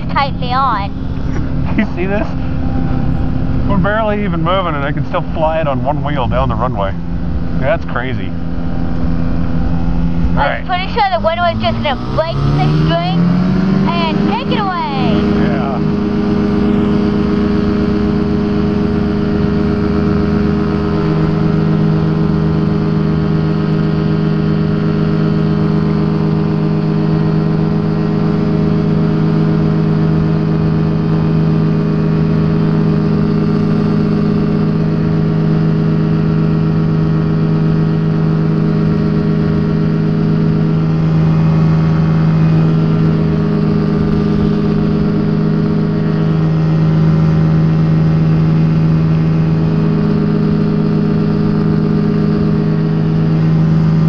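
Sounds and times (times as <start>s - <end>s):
ultralight aircraft engine running: 0.0s - 54.0s.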